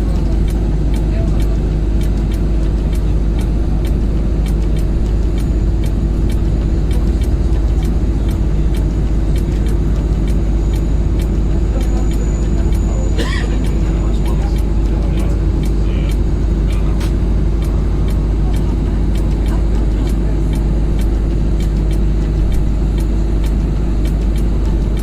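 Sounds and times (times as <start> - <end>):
heavy engine rumble: 0.0 - 25.0.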